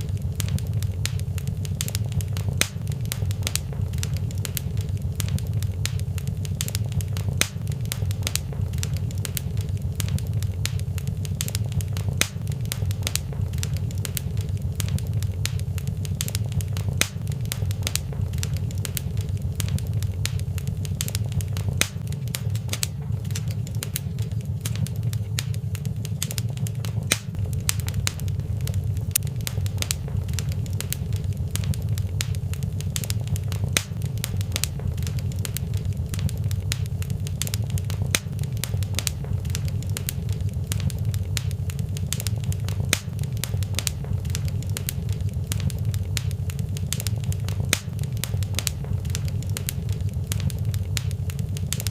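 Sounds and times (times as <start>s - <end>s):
fireplace fire crackling: 0.0s - 51.9s.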